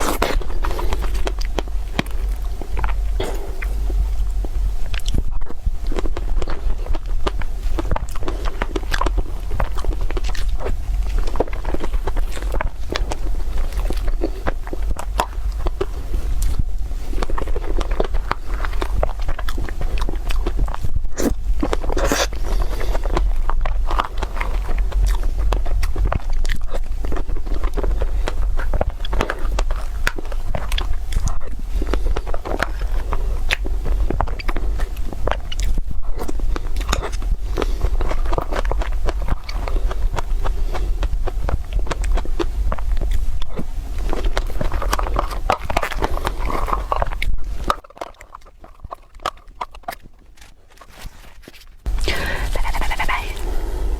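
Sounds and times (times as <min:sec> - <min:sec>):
low steady rumble: 0:00.0 - 0:53.9
person chewing crunchy food: 0:00.0 - 0:53.9
steady low hum: 0:00.0 - 0:53.9.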